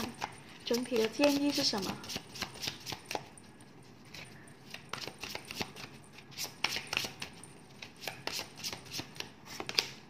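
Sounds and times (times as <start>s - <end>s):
cards being shuffled: 0.0s - 3.3s, 4.0s - 10.0s.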